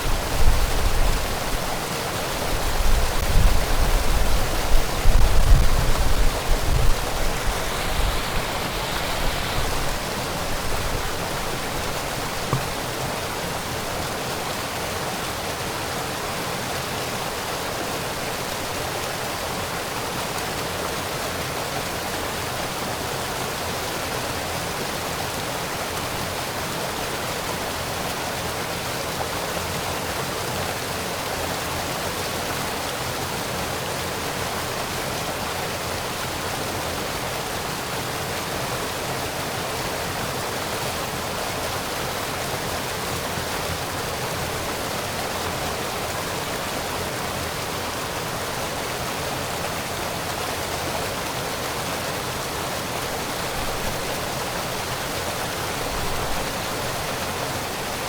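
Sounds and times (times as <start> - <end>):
small waterfall rushing: 0.0 - 58.0.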